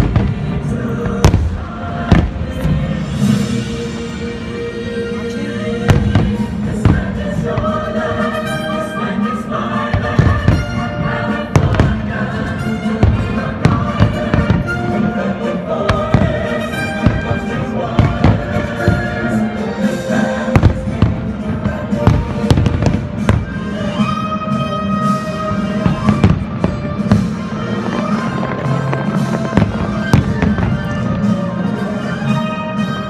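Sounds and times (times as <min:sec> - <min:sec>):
fireworks bursting with sharp bangs: 0:00.0 - 0:04.0, 0:05.8 - 0:33.0
patriotic folk music: 0:00.0 - 0:33.0.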